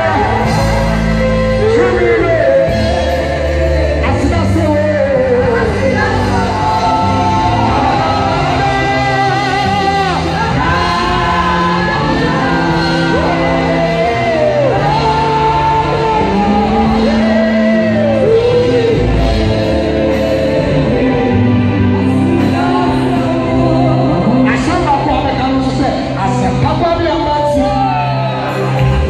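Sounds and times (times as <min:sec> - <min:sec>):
man singing into a microphone: 0:00.0 - 0:28.6
instrumental accompaniment with bass: 0:00.0 - 0:29.0.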